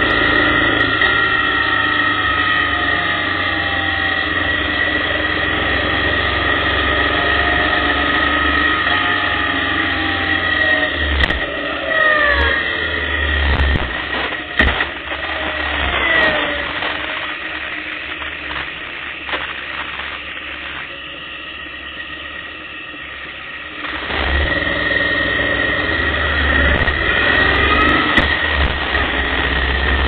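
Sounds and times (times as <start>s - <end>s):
motorcycle engine: 0.0s - 30.0s.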